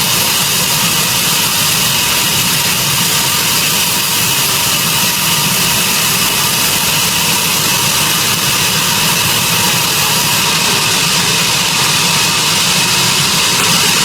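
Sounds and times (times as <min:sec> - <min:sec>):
sawmill machinery droning: 0:00.0 - 0:14.0.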